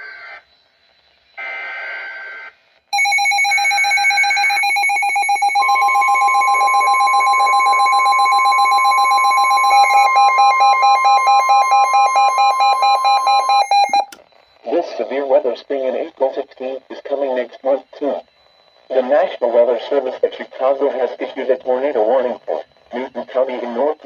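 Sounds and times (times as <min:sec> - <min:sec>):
steady warning tone: 0:02.4 - 0:24.0
data tones burst: 0:02.9 - 0:24.0
radio alarm beeping rapidly: 0:02.9 - 0:24.0.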